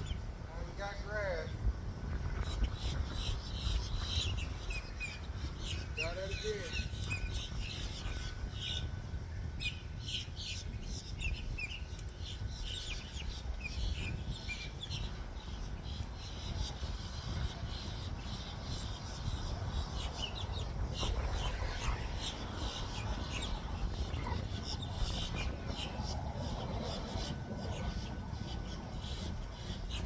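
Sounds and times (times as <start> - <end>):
steady low rumble: 0.0 - 30.0
small birds chirping: 2.3 - 30.0.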